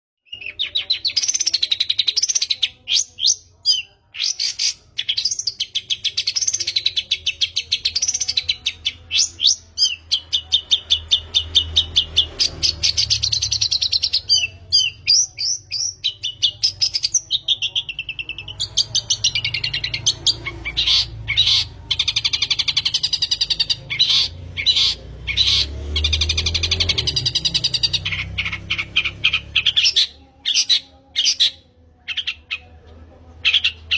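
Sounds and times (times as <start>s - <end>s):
bird singing rapid trills: 0.3s - 32.6s.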